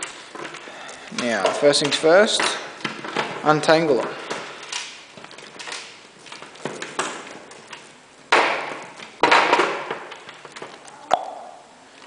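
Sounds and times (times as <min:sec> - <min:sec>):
cables rattling clatter: 0:00.0 - 0:10.9.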